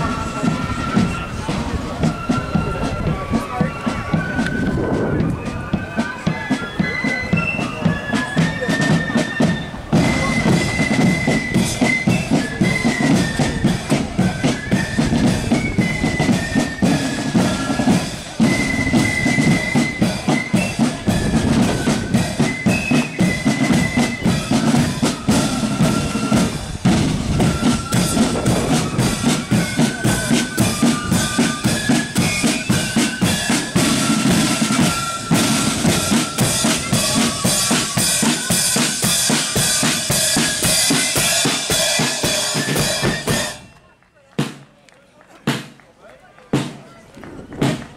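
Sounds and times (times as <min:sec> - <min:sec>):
rapid snare drumming: 0:00.0 - 0:43.7, 0:44.4 - 0:44.7, 0:45.4 - 0:45.8, 0:46.5 - 0:46.8
flute band playing: 0:00.0 - 0:44.6, 0:46.6 - 0:47.9.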